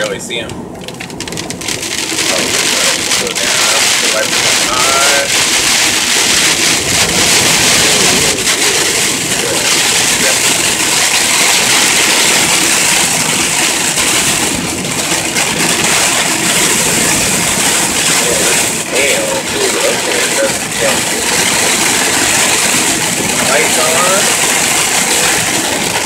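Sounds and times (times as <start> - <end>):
rain and sleet hitting vehicle: 0.0 - 26.0
tyre and road noise: 0.0 - 26.0.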